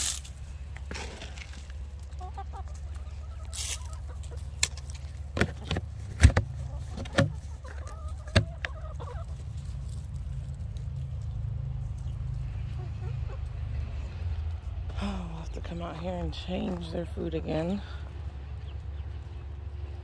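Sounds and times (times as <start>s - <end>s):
hens clucking: 0.6s - 20.0s.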